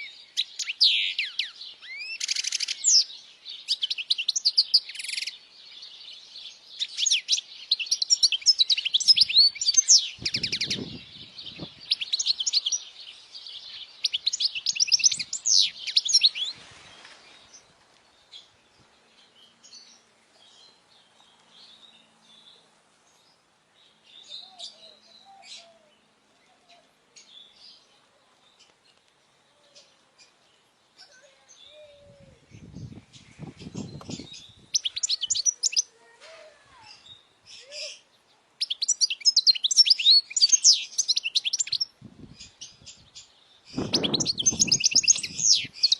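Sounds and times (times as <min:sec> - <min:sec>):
finch singing twittering song: 0:00.0 - 0:25.7, 0:29.7 - 0:35.9, 0:36.9 - 0:45.9.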